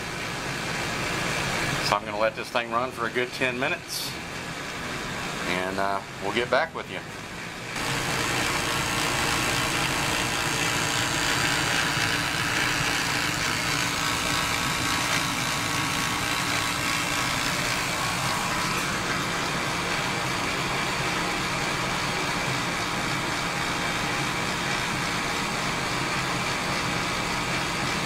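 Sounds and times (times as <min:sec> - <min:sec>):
gas furnace running: 0:00.0 - 0:28.0.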